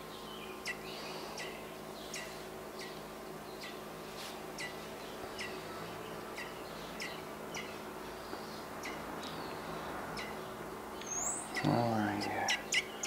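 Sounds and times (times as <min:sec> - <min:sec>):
young robin chirping: 0:00.0 - 0:03.9, 0:04.6 - 0:13.0
faint steady hum: 0:00.0 - 0:13.0.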